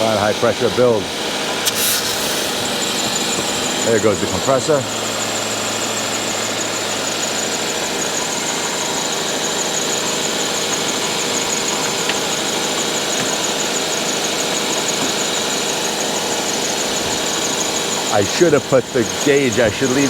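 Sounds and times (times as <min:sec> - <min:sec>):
car engine idling: 0:00.0 - 0:20.0
high-pitched compressor whine: 0:00.0 - 0:20.0.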